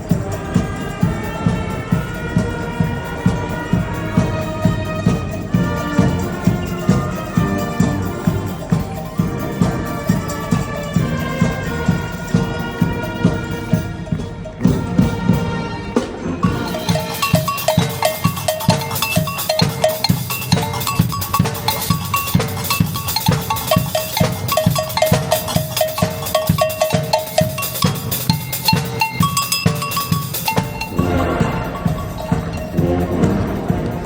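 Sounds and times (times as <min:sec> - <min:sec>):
drum kit beat: 0:00.0 - 0:34.0
wind instruments short notes: 0:00.0 - 0:34.0.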